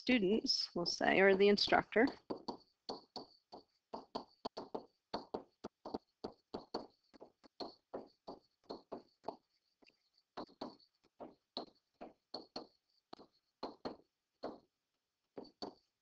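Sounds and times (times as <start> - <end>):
stylus tapping and scratching: 1.2 - 14.7, 15.3 - 16.0.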